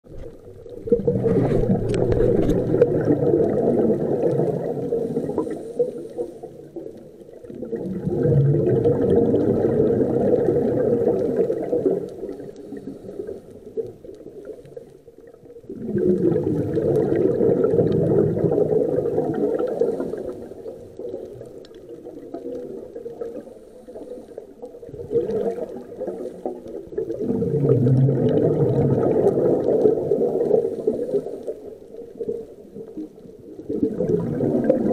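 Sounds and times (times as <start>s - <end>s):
diver exhaling bubbles: 0.1s - 6.7s, 7.4s - 13.4s, 15.6s - 24.2s, 24.8s - 31.5s, 33.6s - 34.9s.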